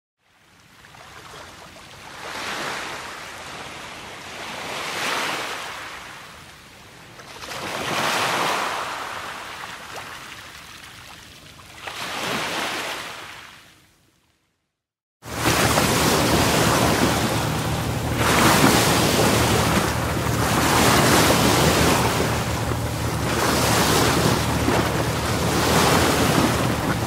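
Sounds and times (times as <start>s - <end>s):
waves washing in: 0.9s - 6.5s, 7.3s - 11.1s, 11.8s - 13.6s, 15.2s - 27.0s.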